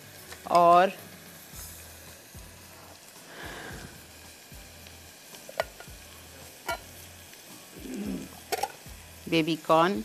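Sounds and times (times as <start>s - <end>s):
onion and garlic sizzling: 0.0s - 10.0s.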